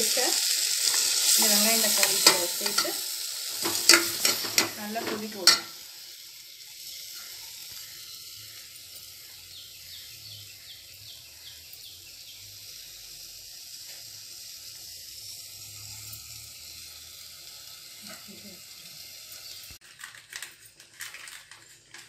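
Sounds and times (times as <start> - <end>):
sauce sizzling in a pot: 0.0 - 19.8.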